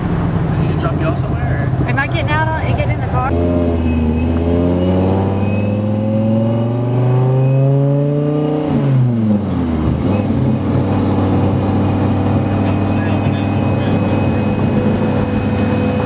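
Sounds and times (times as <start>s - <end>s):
sports car engine accelerating: 3.1s - 16.0s.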